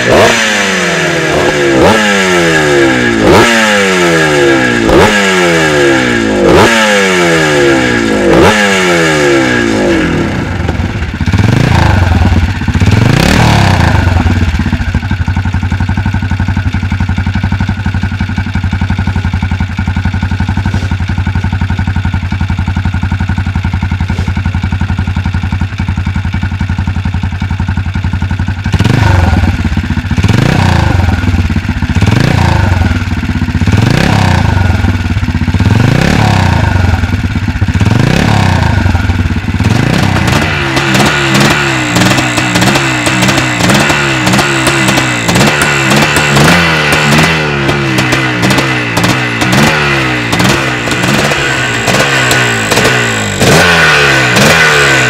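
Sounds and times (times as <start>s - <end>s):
motocross bike throttle blips: 0.0s - 16.0s, 18.8s - 21.4s, 23.6s - 25.0s, 28.6s - 55.0s
motorcycle revving and idling: 0.0s - 55.0s.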